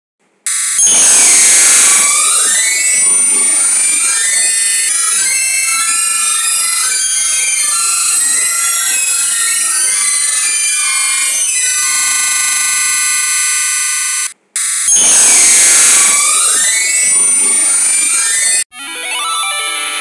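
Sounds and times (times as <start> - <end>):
shrill electronic music: 0.5 - 20.0.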